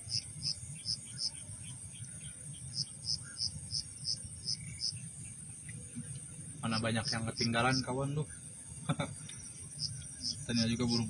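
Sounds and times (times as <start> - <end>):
crickets chirping: 0.0 - 11.0
steady high insect hiss: 0.0 - 11.0.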